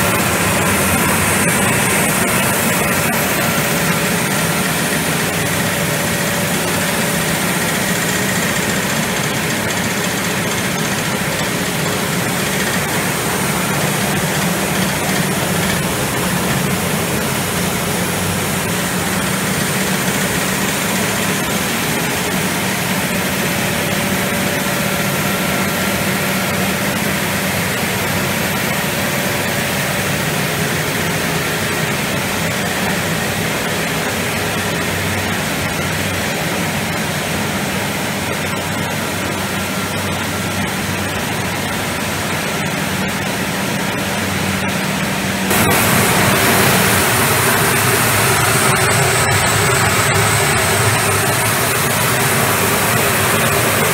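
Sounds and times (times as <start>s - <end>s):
factory machinery drone: 0.0s - 53.9s.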